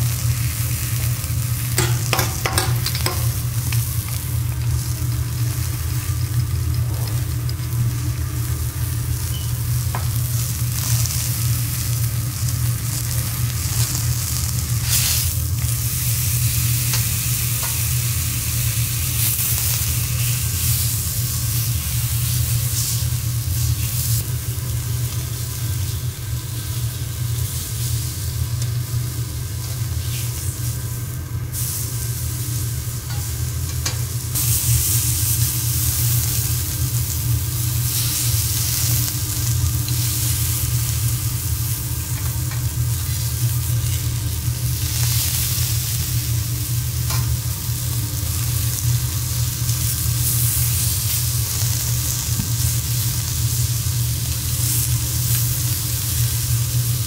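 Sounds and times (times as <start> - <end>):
steak sizzling on a griddle: 0.0 - 57.0.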